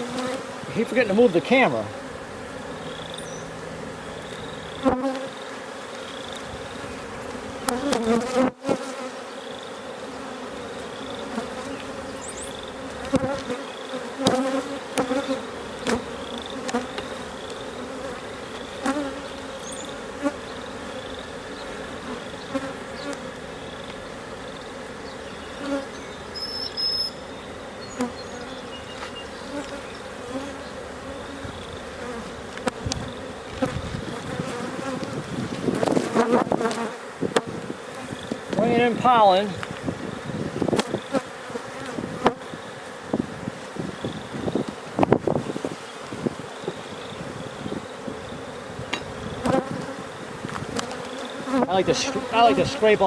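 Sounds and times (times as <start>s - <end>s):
bees buzzing: 0.0s - 53.0s.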